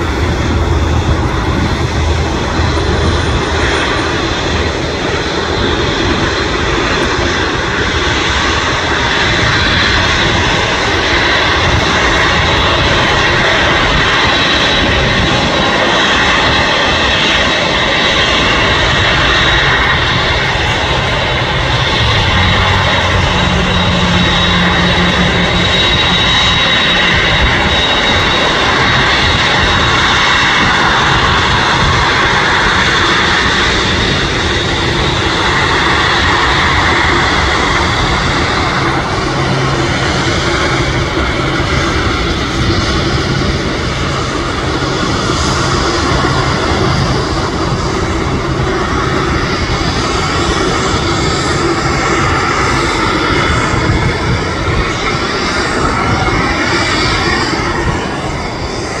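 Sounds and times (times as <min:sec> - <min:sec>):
jet engines rushing with whine: 0:00.0 - 0:59.0.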